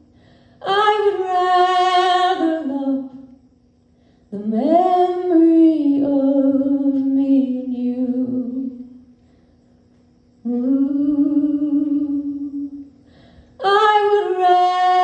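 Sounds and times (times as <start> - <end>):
woman singing a cappella: 0.0 - 3.4, 4.3 - 9.1, 10.4 - 15.0.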